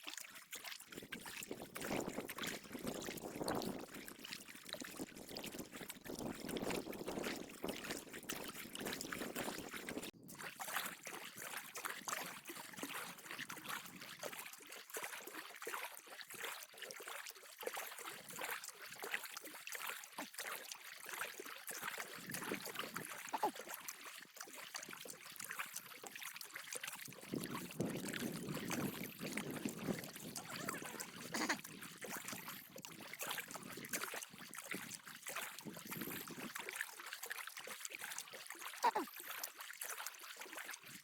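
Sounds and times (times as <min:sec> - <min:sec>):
paddle dripping and splashing: 0:00.0 - 0:41.0
water trickling and splashing: 0:00.0 - 0:41.0.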